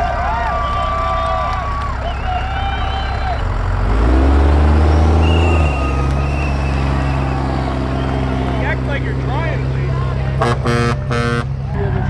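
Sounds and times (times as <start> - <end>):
truck engine revving under load: 0.0 - 12.0.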